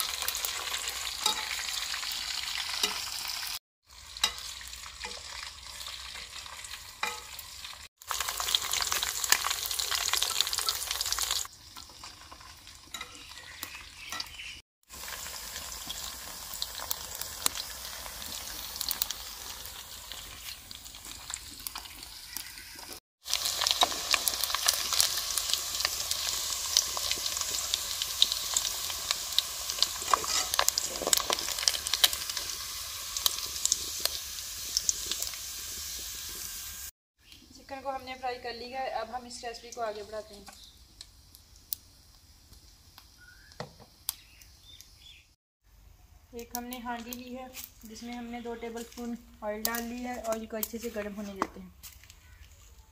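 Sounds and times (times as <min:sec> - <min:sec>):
chicken deep-frying in oil: 0:00.0 - 0:45.4, 0:46.2 - 0:52.9.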